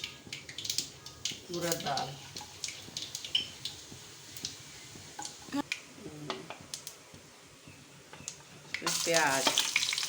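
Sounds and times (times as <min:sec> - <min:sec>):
seeds spluttering in hot oil: 0:00.0 - 0:07.4, 0:08.2 - 0:10.0.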